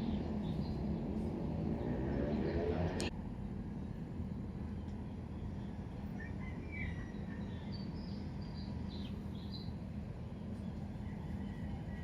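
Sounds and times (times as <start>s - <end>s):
bird chirping: 0.0s - 2.8s, 4.7s - 12.0s
low background rumble: 0.0s - 12.0s.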